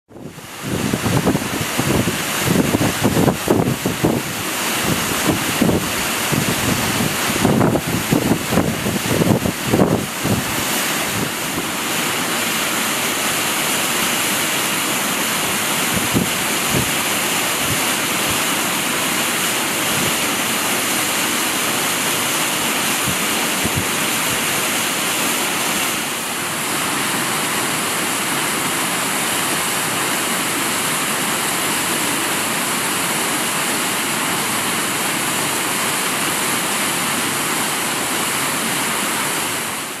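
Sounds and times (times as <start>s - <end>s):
waterfall rushing: 0.1s - 40.0s.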